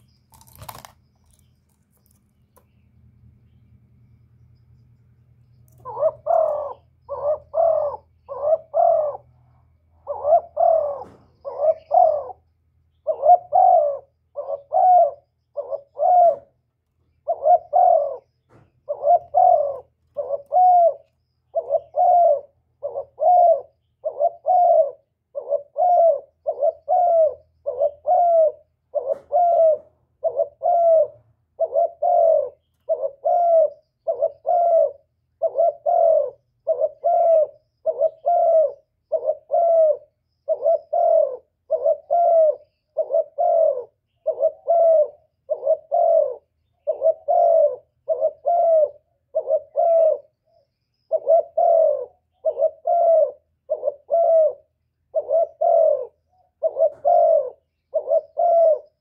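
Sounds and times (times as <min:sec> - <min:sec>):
dove cooing: 0:05.7 - 0:59.0.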